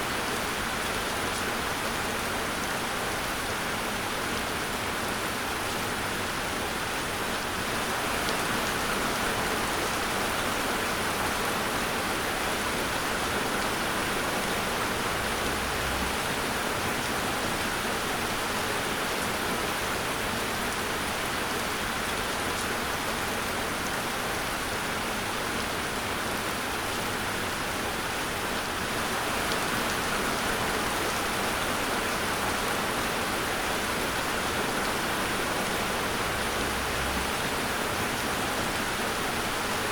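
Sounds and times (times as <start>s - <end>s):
rain pattering: 0.2s - 39.9s.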